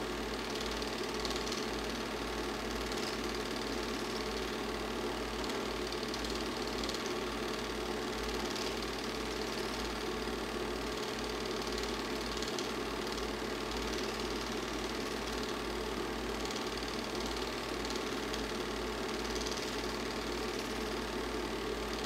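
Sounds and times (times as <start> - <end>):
film projector whirring and clattering: 0.0 - 22.0.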